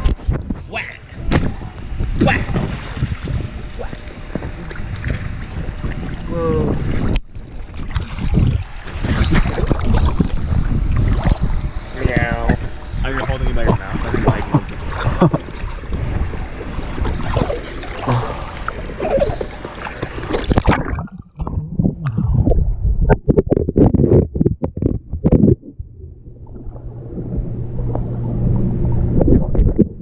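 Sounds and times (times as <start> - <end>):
low hum: 0.0 - 30.0
pool water splashing: 0.7 - 22.8, 25.5 - 30.0.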